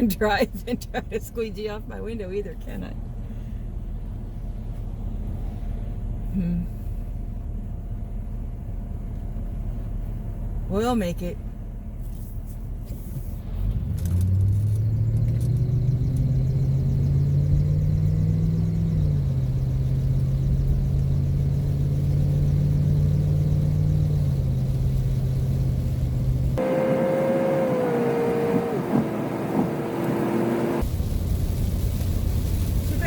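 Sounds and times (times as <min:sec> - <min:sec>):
van engine droning: 0:00.0 - 0:33.0.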